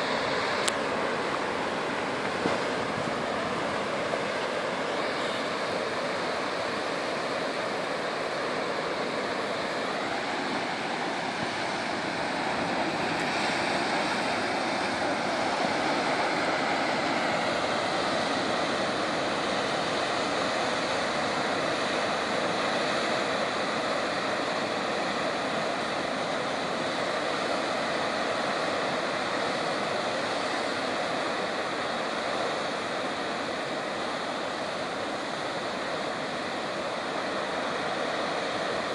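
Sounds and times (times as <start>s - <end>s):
surf washing over rocks: 0.0s - 38.9s.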